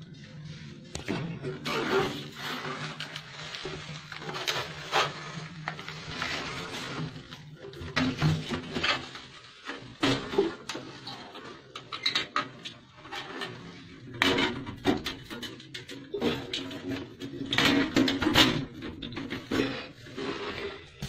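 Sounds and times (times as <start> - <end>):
hard objects clattering: 1.0 - 21.0.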